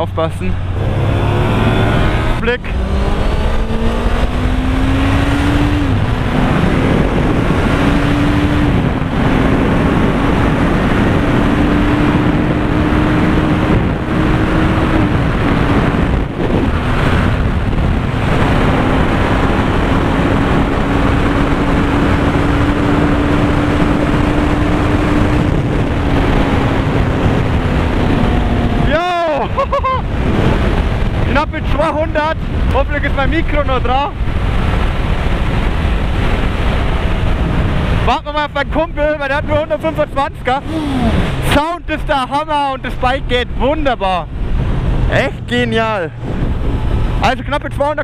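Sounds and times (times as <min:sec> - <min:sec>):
motorcycle engine accelerating: 0:00.0 - 0:41.9
wind rushing on microphone: 0:00.0 - 0:48.0.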